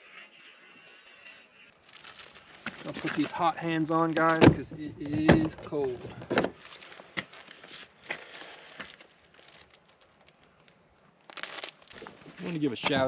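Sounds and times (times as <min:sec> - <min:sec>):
packet crinkling and rustling: 0:01.7 - 0:13.0.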